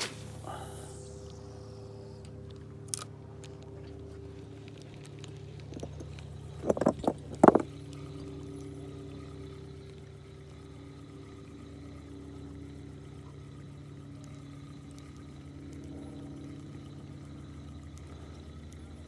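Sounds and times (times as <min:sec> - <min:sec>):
boat motor idling: 0:00.2 - 0:19.0.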